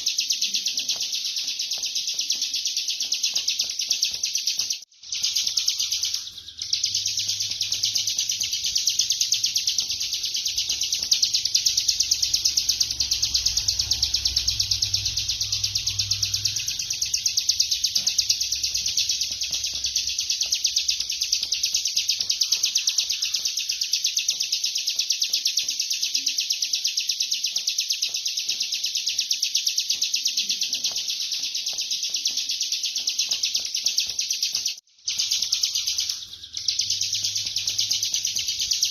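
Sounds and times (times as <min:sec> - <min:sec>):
bird singing rapid drilling trill: 0:00.0 - 0:38.9.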